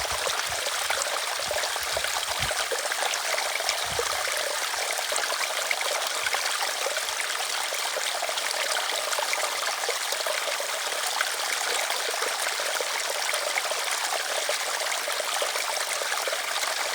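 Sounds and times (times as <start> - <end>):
stream trickling over stones: 0.0 - 16.9.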